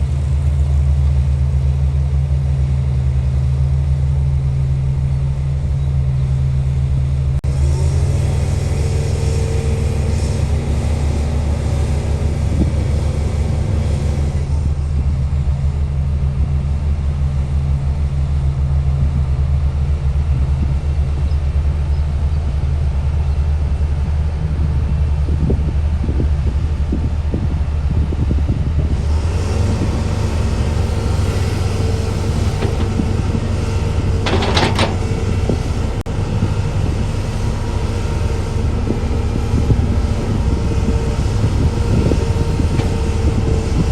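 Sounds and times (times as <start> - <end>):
heavy machine engine droning: 0.0 - 43.9.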